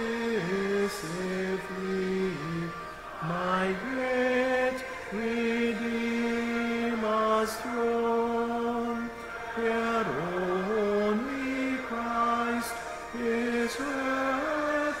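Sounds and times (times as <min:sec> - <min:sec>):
man singing a hymn: 0:00.0 - 0:15.0.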